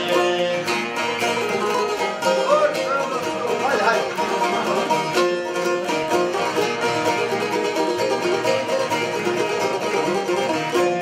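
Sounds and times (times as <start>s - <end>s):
long-necked lute fast plucking: 0.0s - 11.0s.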